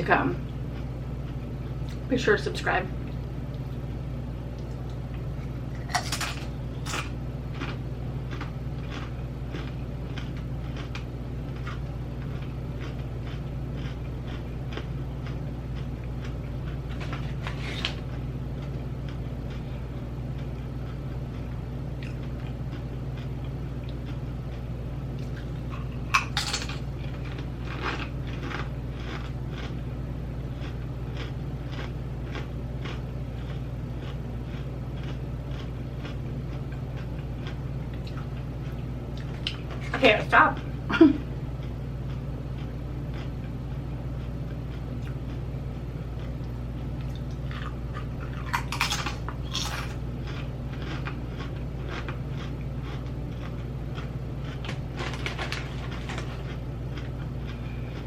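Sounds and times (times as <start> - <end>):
steady low hum: 0.0 - 58.0
chewing crisp chips: 4.5 - 58.0.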